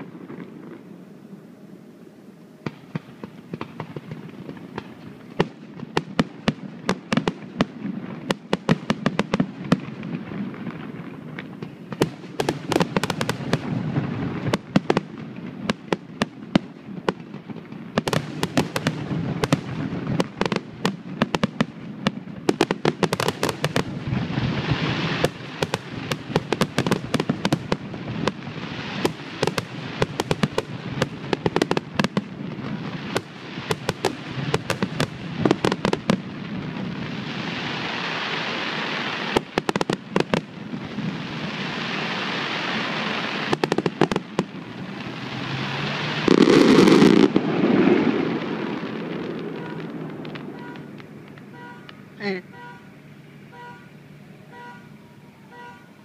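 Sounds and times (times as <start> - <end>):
fireworks bangs and booms: 0.0 - 1.0, 2.6 - 52.8
fireworks crackle: 0.0 - 53.9.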